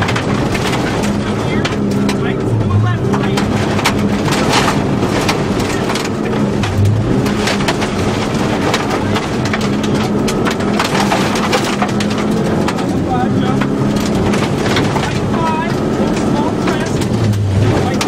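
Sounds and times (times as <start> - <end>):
car engine running hard: 0.0 - 18.0
gravel rattling against car underbody: 0.0 - 18.0.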